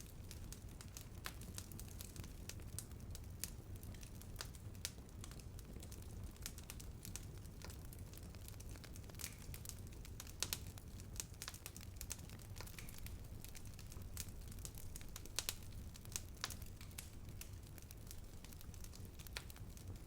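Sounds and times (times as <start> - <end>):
fire low rumble: 0.0 - 20.0
wood fire crackling and popping: 0.0 - 20.0.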